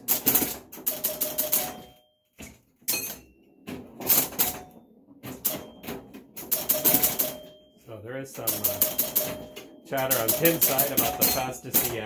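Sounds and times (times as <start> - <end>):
pinball machine mechanical clacking: 0.0 - 12.0.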